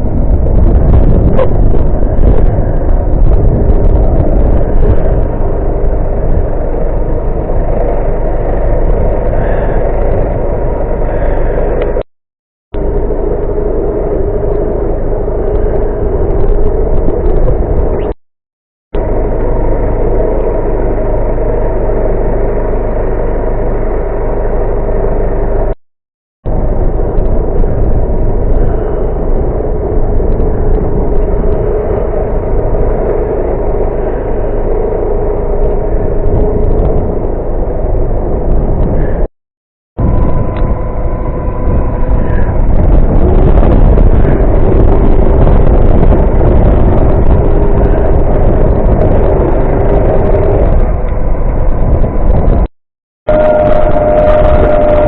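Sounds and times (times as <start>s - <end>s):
vehicle engine and road noise: 0.0s - 12.1s, 12.7s - 18.2s, 19.0s - 25.8s, 26.4s - 39.3s, 40.0s - 52.7s, 53.3s - 55.0s.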